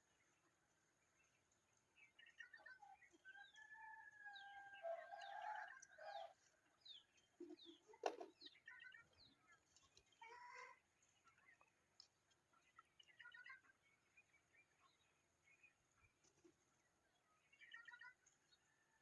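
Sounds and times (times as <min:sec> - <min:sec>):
bird calls: 0:00.0 - 0:19.0.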